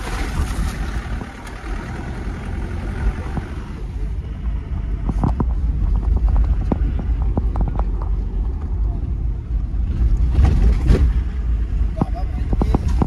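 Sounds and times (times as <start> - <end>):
car rumbling while driven: 0.0 - 13.0.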